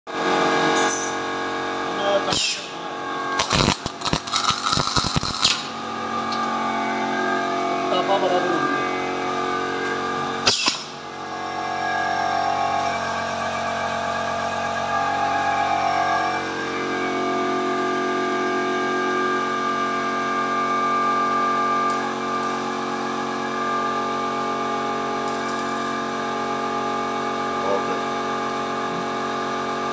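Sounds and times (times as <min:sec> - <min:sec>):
welding machine humming: 0:00.1 - 0:29.9.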